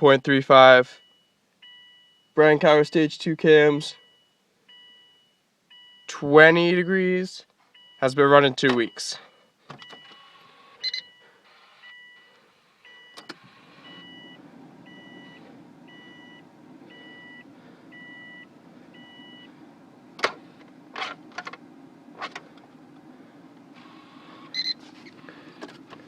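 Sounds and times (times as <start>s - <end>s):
low steady hum: 0.0s - 26.0s
car warning chime beeps: 0.8s - 20.2s, 23.8s - 25.4s.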